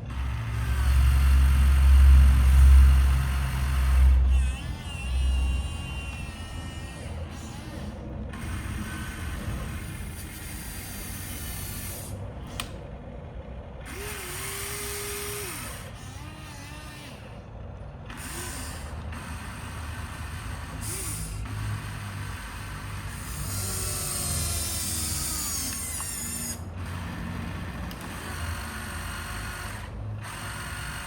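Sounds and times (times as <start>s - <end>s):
toy motors whirring with rattle: 0.0s - 12.8s, 13.9s - 17.4s, 18.1s - 31.0s
short motor whines: 0.0s - 13.0s, 13.8s - 31.0s.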